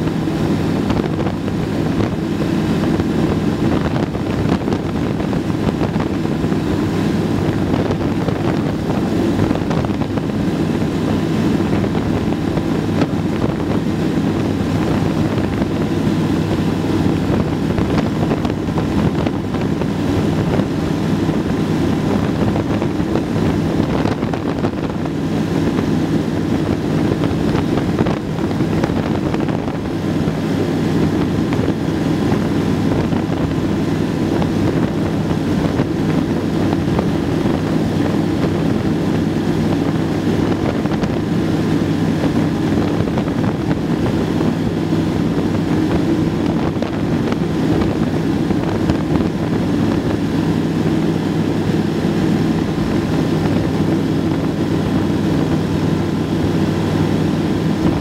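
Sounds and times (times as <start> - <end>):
aircraft engine and propeller drone: 0.0 - 58.0
rushing wind noise: 0.0 - 58.0.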